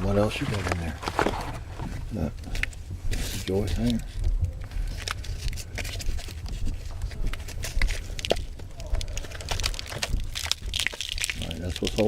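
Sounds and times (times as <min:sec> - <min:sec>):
microphone handling rumble: 0:00.0 - 0:10.8.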